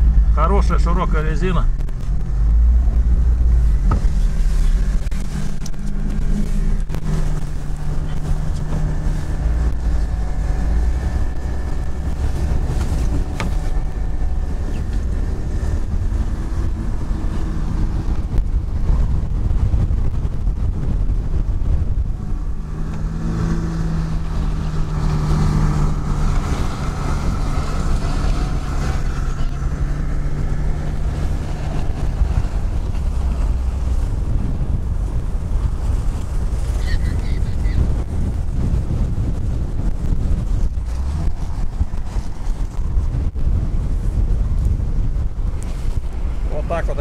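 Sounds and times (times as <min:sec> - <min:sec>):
car engine running: 0:00.0 - 0:47.0
wind rushing over microphone: 0:00.0 - 0:47.0.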